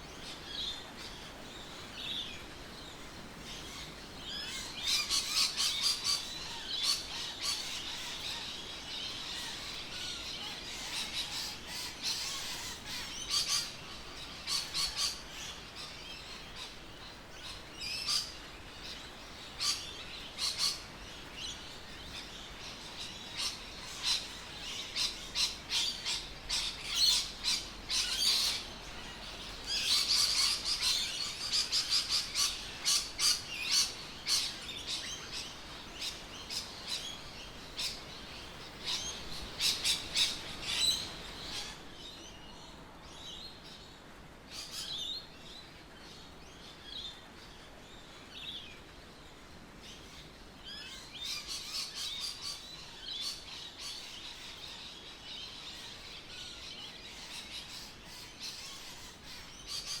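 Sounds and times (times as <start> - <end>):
birds chirping: 0.0 - 48.8.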